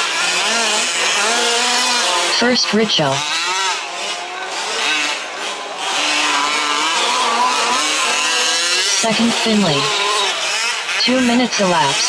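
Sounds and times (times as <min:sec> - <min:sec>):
small two-stroke engines racing: 0:00.0 - 0:12.0.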